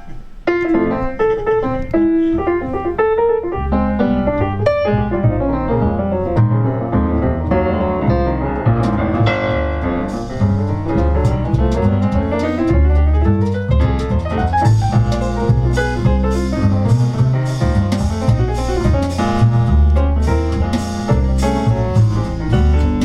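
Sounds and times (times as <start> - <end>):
jazz piano: 0.0 - 23.0
upright double bass: 2.8 - 23.0.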